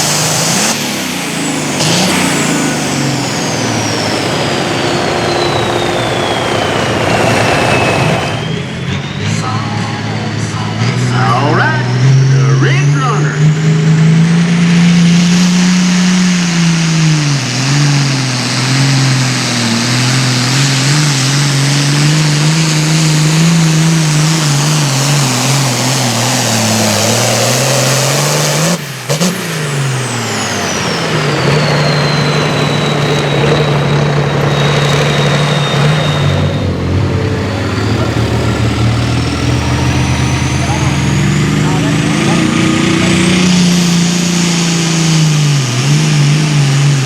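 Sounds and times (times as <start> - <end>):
diesel engine running hard: 0.0 - 47.0
high whine: 0.0 - 47.0.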